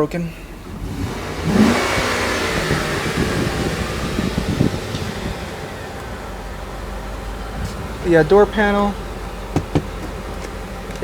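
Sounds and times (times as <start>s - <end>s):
low bumps and rumbles: 0.0s - 11.0s
air-conditioning blower rushing air: 0.7s - 10.6s.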